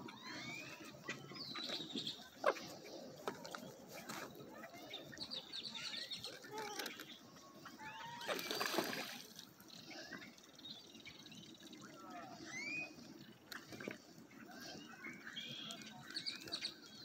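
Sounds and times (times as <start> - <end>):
bird chirps and calls: 0.0 - 8.9, 9.7 - 17.0
lake water lapping: 0.0 - 16.6.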